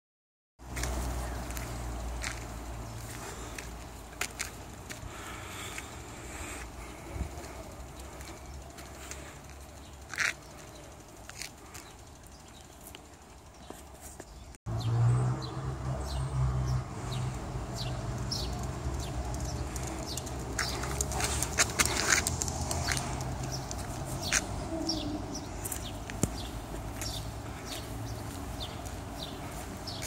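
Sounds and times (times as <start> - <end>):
small birds chirping: 0.7 - 30.0.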